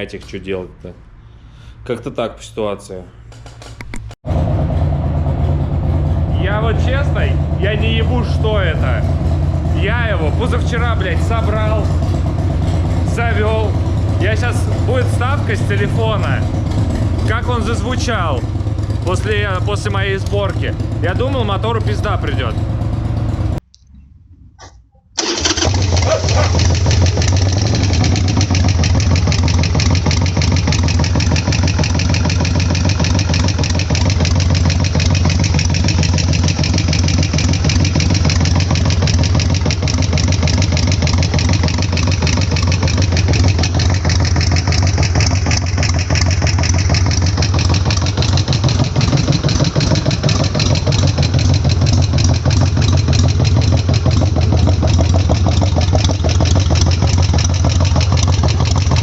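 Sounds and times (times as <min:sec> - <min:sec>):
motorcycle engine idling: 0:04.3 - 0:23.6, 0:25.2 - 0:59.0.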